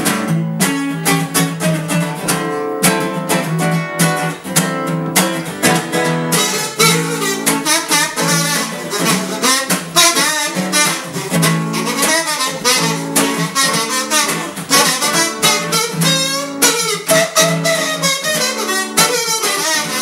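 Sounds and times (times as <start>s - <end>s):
acoustic guitar strumming: 0.0s - 20.0s
buzzy wavering lead melody: 0.0s - 20.0s.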